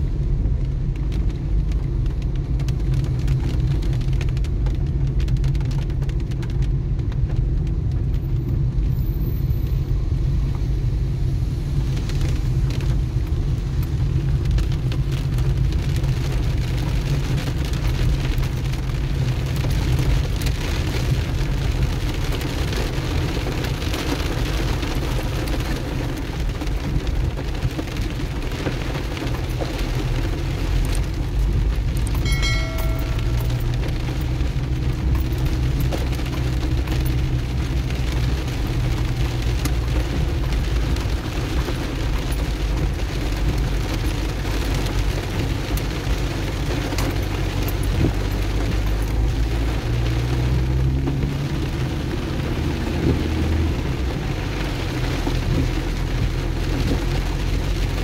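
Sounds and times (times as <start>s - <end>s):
car driving on wet road: 0.0s - 58.0s
rain pattering on a car: 0.0s - 58.0s.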